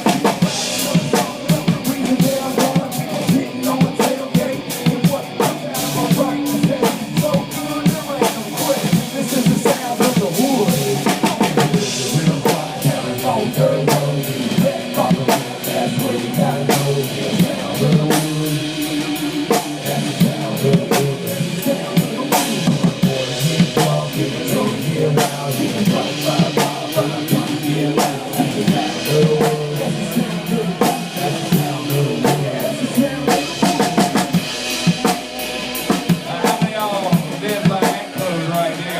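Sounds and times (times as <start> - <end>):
music with drum-kit beat: 0.0 - 38.9.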